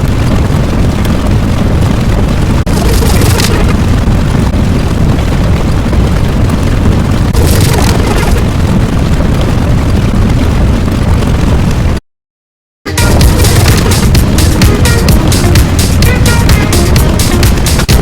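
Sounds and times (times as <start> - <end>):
loud continuous rumbling: 0.0 - 12.0, 12.9 - 18.0.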